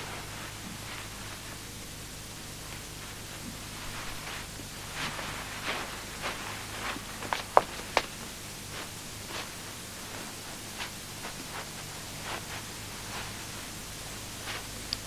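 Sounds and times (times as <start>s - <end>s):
clothing rustling: 0.0s - 14.8s
tape hiss and low hum: 0.0s - 15.0s.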